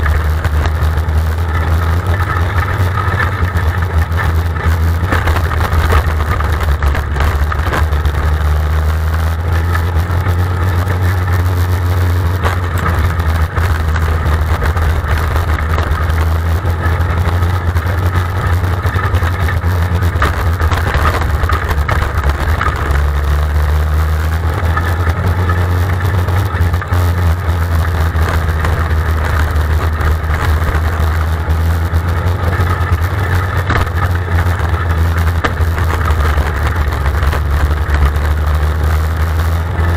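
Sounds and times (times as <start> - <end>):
race car engine idling: 0.0 - 39.9.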